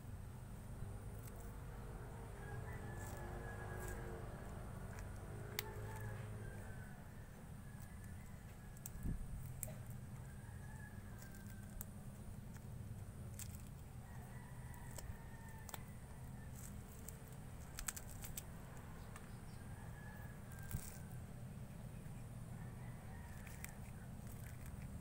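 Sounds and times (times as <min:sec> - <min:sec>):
steady low hum: 0:00.0 - 0:25.0
fruit peel tearing: 0:01.0 - 0:21.4, 0:23.1 - 0:25.0.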